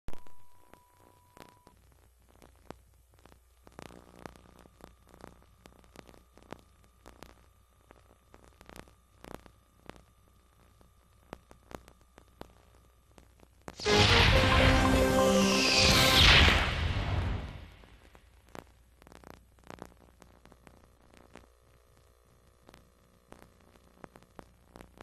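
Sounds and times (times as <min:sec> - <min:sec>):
tape hum and hiss: 0:00.1 - 0:25.0.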